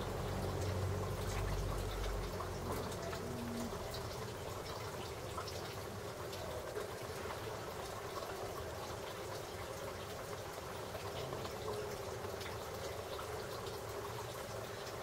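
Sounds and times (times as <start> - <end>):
rushing trickling noise: 0.0 - 15.0.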